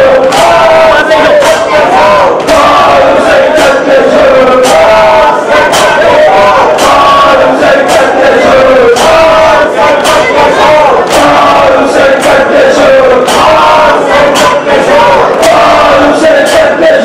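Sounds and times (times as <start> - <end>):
crowd of men chanting: 0.0 - 17.0
sharp beats: 0.0 - 17.0.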